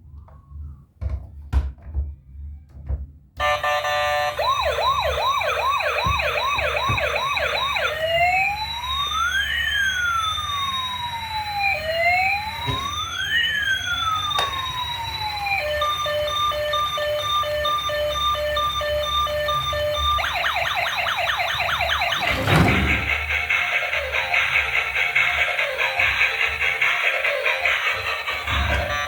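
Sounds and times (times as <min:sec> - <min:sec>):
toy electronic siren: 0:03.4 - 0:29.0.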